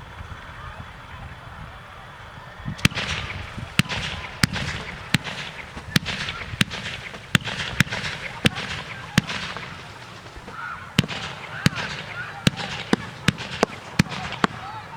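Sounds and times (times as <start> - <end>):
firework bursts with hiss: 2.8 - 14.9.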